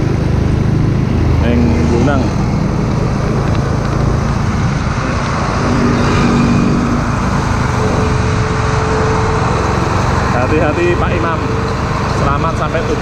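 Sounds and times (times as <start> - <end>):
road traffic noise: 0.0 - 13.0
truck diesel engine rumbling: 0.0 - 13.0.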